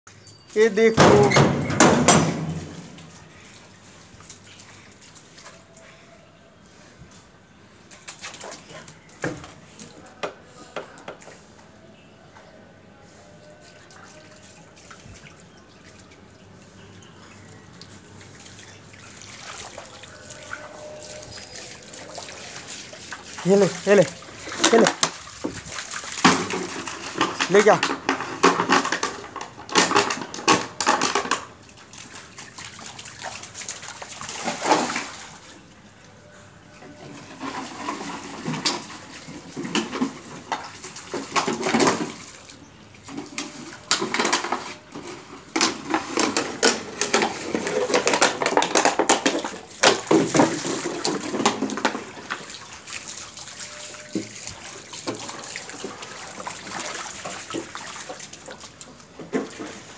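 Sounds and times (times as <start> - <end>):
water splashing on tiled floor: 0.2 - 6.9, 7.7 - 11.7, 13.1 - 36.2, 37.1 - 59.9.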